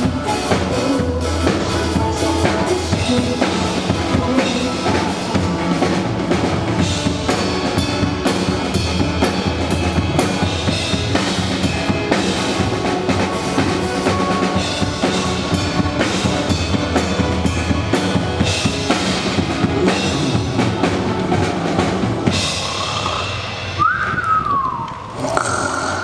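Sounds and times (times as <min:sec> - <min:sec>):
drum kit music: 0:00.0 - 0:24.5.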